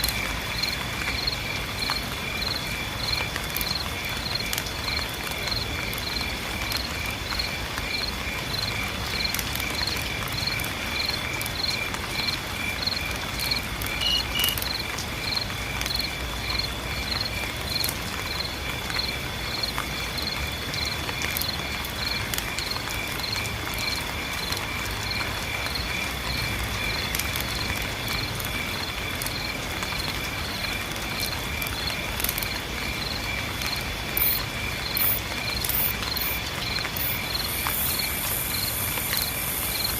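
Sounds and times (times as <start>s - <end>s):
crickets chirping: 0.0s - 39.9s
rain hiss: 0.0s - 39.9s.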